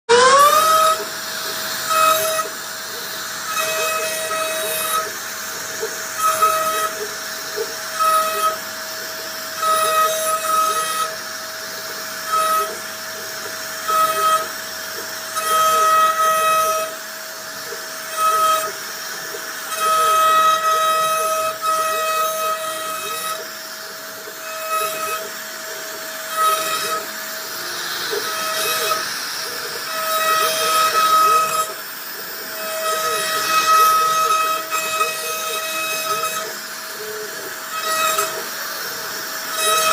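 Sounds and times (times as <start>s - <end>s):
bit rasping into wood: 0.1s - 39.9s
router spindle whining: 0.1s - 39.9s.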